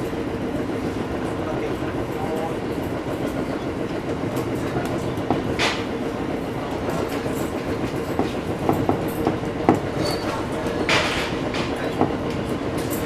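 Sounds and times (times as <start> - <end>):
train wheels rumbling: 0.0 - 13.0
wheels clicking over rail joints: 0.0 - 13.0.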